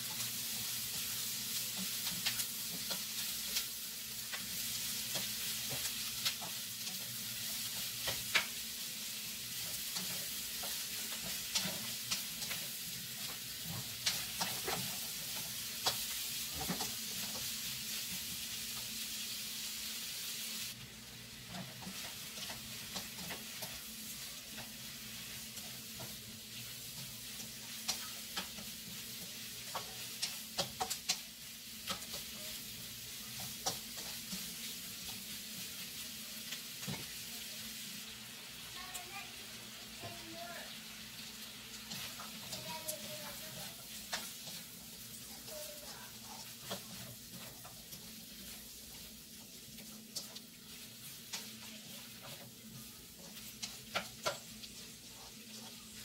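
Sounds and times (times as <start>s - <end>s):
spatula scraping and tapping pan: 0.0s - 18.9s, 21.3s - 37.2s, 41.2s - 56.0s
sausage and onions sizzling: 0.0s - 56.0s.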